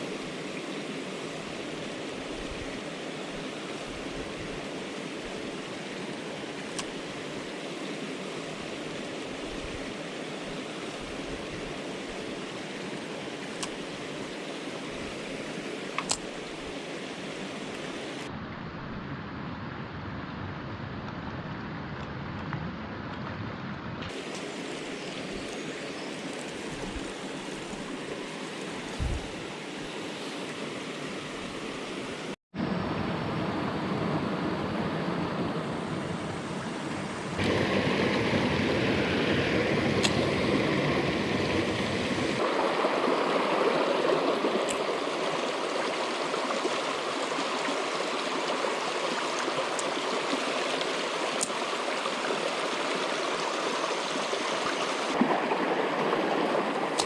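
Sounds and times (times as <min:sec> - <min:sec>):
stream rushing over rocks: 0:00.0 - 0:18.3, 0:24.1 - 0:32.4, 0:36.0 - 0:57.0.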